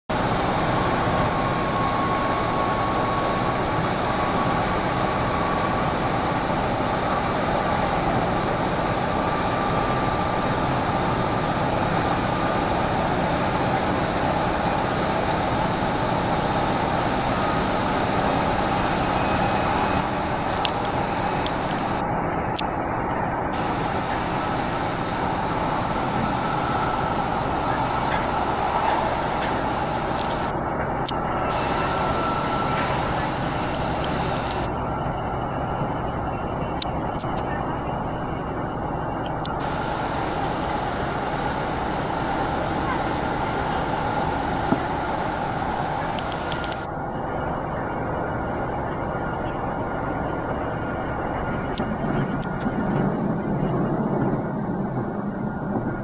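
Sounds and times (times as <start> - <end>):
faint whine: 0.1 - 56.0
train running noise inside carriage: 0.1 - 56.0.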